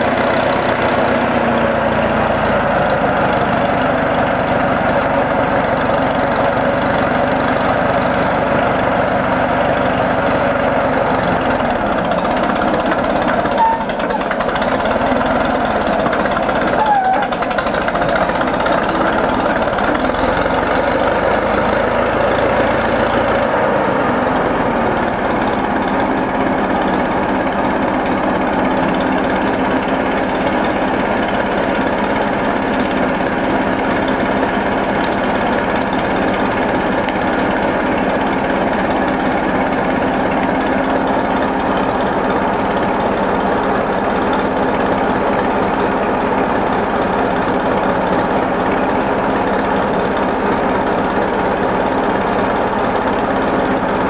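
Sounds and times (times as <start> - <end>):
crawler tractor engine idling: 0.0 - 54.0.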